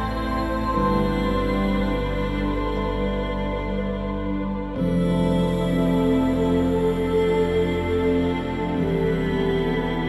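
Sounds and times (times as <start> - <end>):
slow new-age music chords: 0.0 - 10.0.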